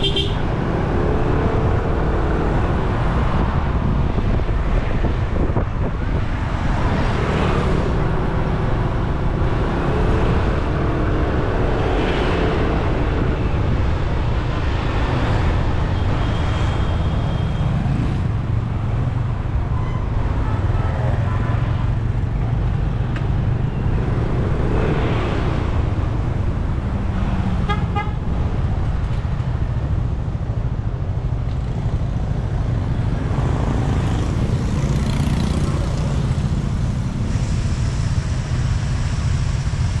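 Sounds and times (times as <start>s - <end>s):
road and traffic noise: 0.0s - 40.0s.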